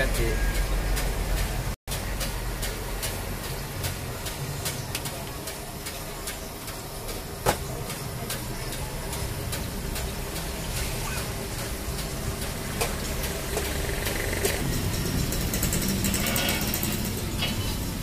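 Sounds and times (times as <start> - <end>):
gas stove burner hissing: 0.0 - 18.0
street traffic rumble: 0.0 - 18.0.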